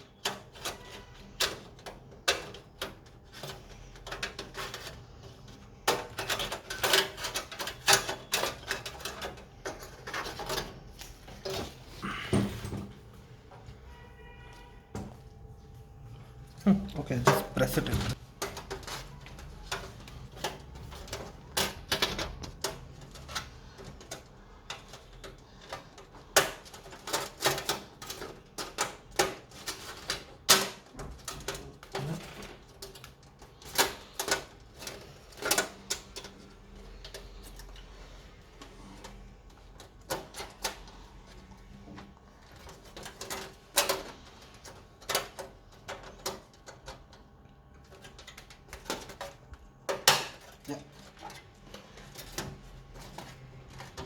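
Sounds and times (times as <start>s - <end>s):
computer parts clicking and tapping: 0.0s - 13.7s, 17.0s - 54.0s.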